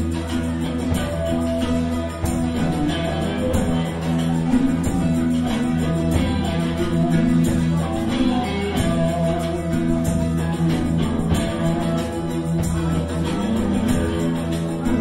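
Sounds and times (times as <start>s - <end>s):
drum kit beat: 0.0s - 15.0s
electric bass: 0.0s - 15.0s
electric guitar: 0.0s - 15.0s.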